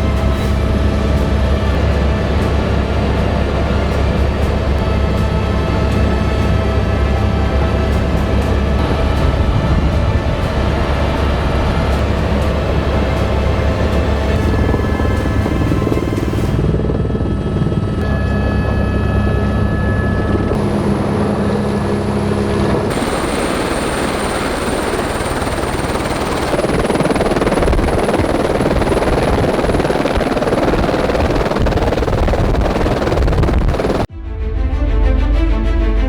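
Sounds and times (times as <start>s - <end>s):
music: 0.0s - 33.2s, 33.8s - 36.0s
helicopter turbine and rotor: 0.0s - 34.1s.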